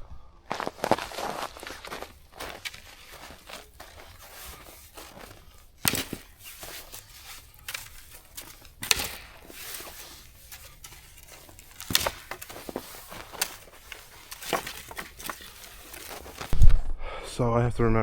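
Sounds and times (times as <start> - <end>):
footsteps crunching on snow: 0.5 - 16.6.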